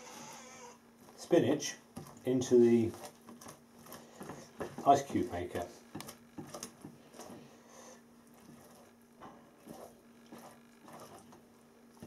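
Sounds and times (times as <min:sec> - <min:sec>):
spatula squelching and scraping: 0:00.0 - 0:12.0
steady low hum: 0:00.0 - 0:12.0.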